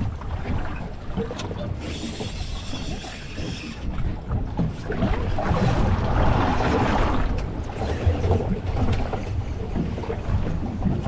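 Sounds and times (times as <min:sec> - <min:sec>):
water splashing around boat hull: 0:00.0 - 0:11.0
wind buffeting microphone: 0:00.0 - 0:11.0.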